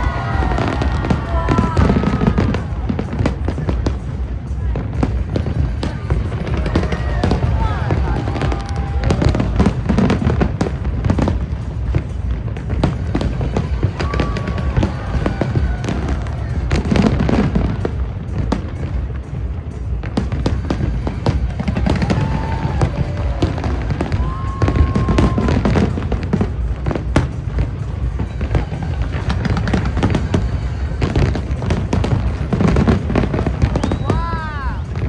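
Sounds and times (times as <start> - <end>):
fireworks bangs and crackles: 0.0 - 35.0
low rumble: 0.0 - 35.0
music playing: 0.0 - 35.0.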